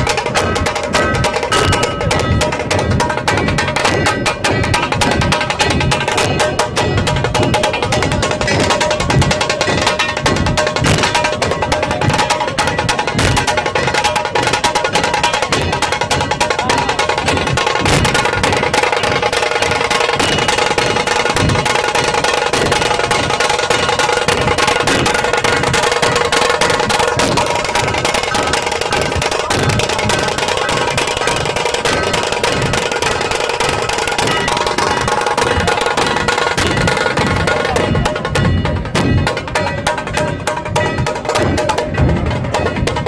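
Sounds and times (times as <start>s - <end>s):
barrel drums booming: 0.0s - 43.0s
fast rolling drum strokes: 0.0s - 43.0s.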